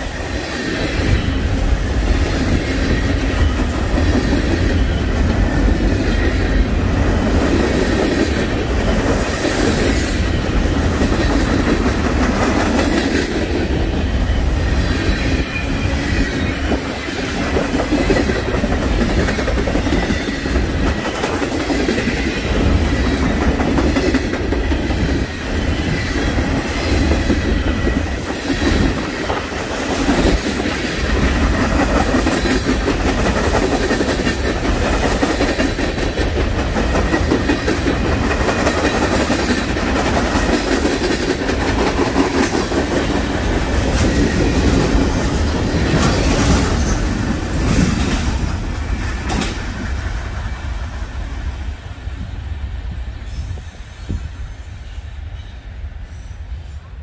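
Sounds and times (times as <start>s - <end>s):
train wheels clacking on rails: 0.0s - 51.9s.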